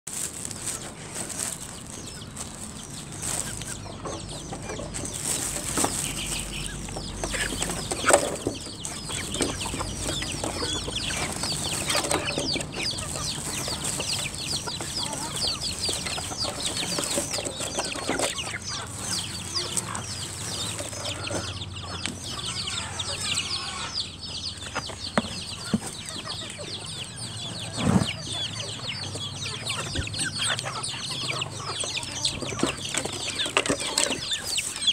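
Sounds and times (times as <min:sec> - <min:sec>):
chicks cheeping: 0:00.1 - 0:34.9.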